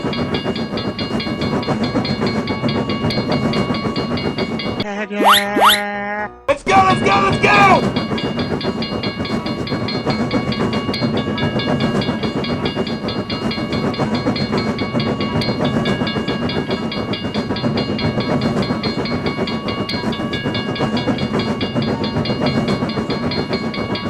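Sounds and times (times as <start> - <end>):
train rumble and clatter: 0.0 - 4.9, 6.5 - 24.0.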